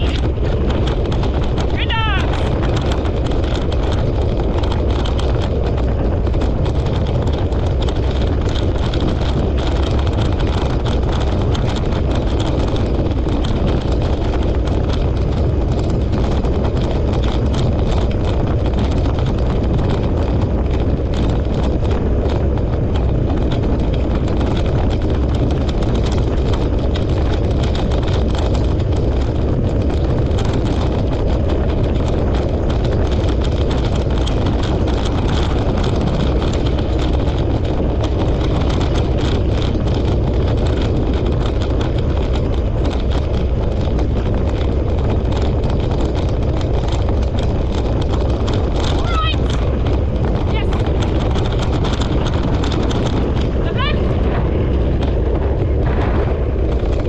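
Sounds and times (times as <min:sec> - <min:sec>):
wheels rumbling and rattling on dirt: 0:00.0 - 0:57.0.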